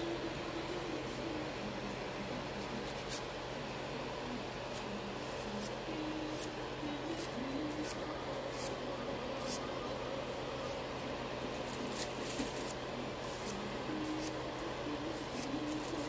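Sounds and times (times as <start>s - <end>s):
fan whirring: 0.0s - 16.0s.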